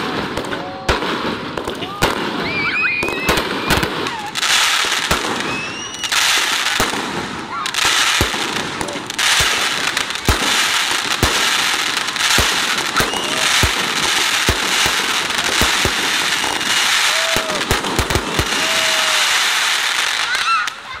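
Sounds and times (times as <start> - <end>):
firework shells booming: 0.0 - 20.8
fireworks crackling: 0.0 - 21.0.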